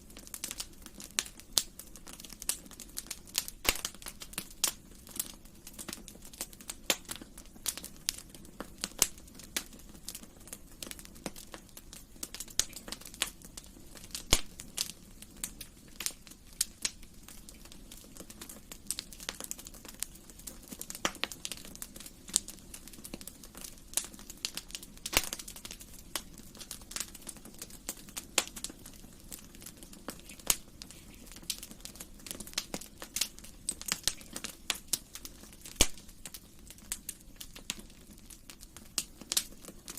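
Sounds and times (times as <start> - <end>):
low hiss of flames: 0.0 - 39.9
wood fire crackling and popping: 0.0 - 39.9.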